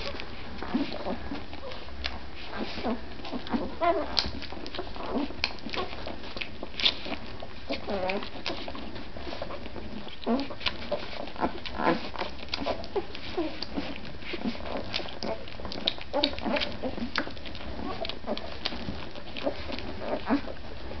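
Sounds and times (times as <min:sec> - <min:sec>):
puppies squeaking and grunting: 0:00.0 - 0:21.0
puppies suckling clicks: 0:00.0 - 0:21.0.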